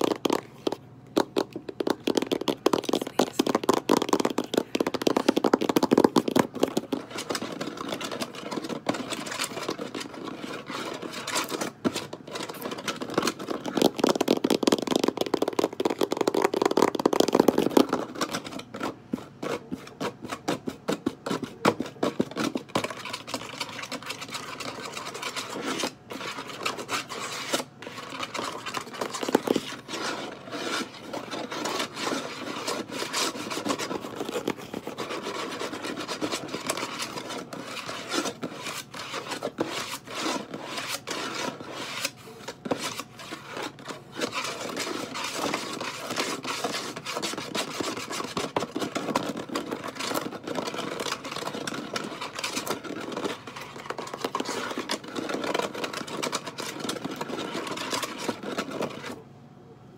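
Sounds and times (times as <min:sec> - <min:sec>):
fingernail scratching: 0:01.4 - 0:59.2.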